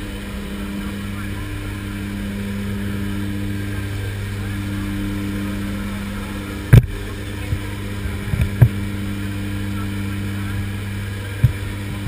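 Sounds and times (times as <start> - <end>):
plane engine drone: 0.0 - 12.0.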